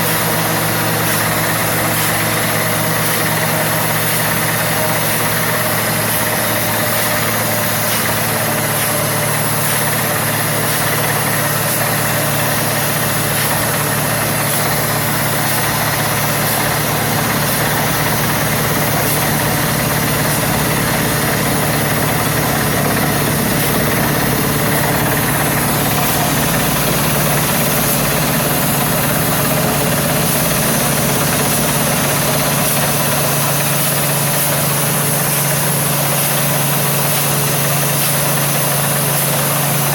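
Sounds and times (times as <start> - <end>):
drilling rig engine drone: 0.0 - 39.9.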